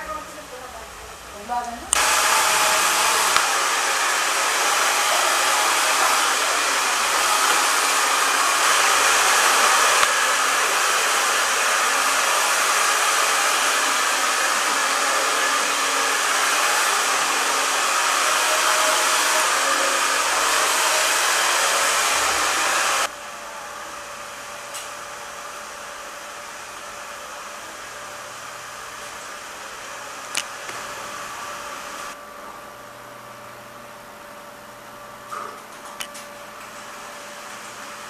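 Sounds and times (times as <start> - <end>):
hair dryer running: 0.0 - 32.2, 36.5 - 38.0.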